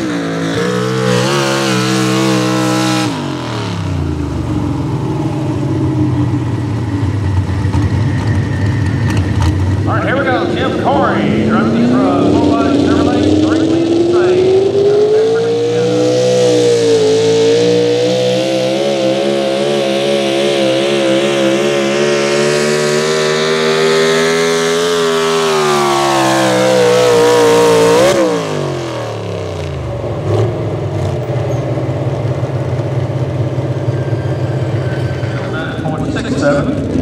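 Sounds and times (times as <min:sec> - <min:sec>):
truck engine at full throttle: 0:00.0 - 0:37.0.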